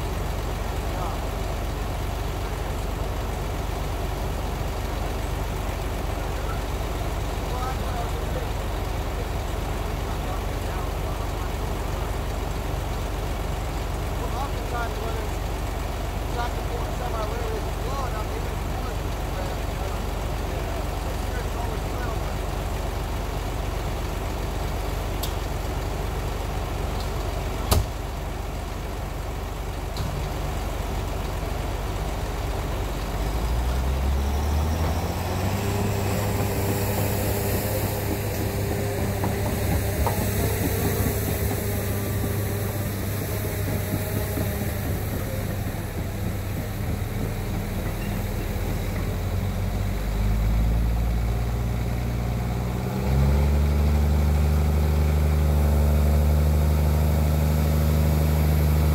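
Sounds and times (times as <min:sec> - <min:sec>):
diesel engine revving: 0:00.0 - 0:58.9.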